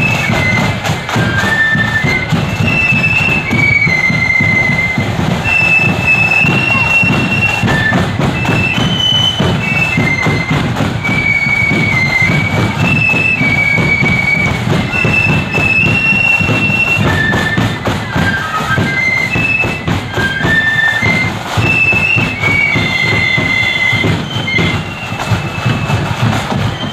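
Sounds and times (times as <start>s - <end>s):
flutes playing high melody: 0.0s - 26.9s
heavy drum beat: 0.0s - 26.9s.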